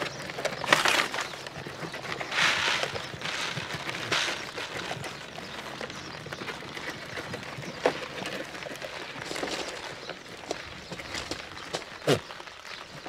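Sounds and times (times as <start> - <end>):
goats scuffling: 0.0 - 13.0
hoof steps: 0.0 - 13.0.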